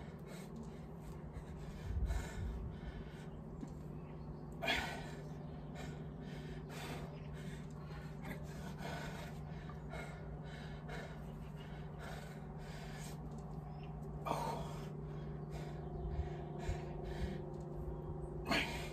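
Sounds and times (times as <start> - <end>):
man breathing hard: 0.0 - 18.9.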